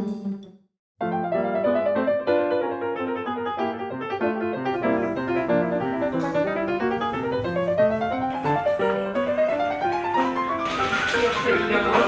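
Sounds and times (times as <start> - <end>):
solo piano music: 1.0 - 12.0.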